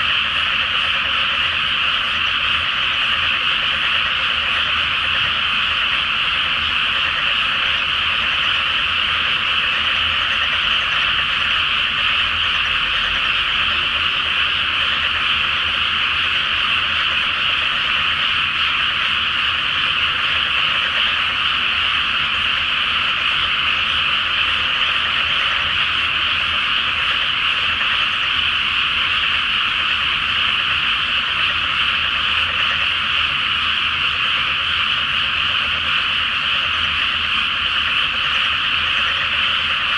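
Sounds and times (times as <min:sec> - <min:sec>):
chorus of frogs croaking: 0:00.0 - 0:39.9.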